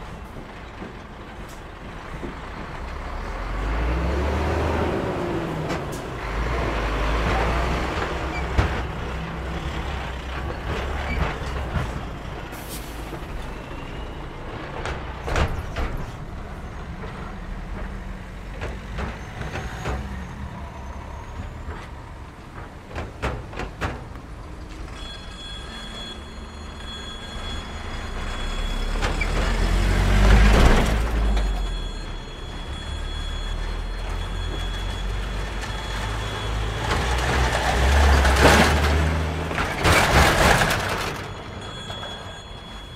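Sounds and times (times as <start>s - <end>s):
cars and lorries passing: 0.0s - 42.9s
lorry engine rumbling: 0.0s - 42.9s.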